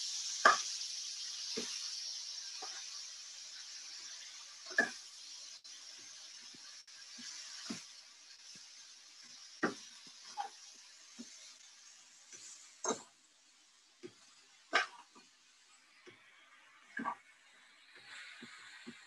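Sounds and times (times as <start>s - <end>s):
vegetables sizzling in a wok: 0.0s - 19.0s.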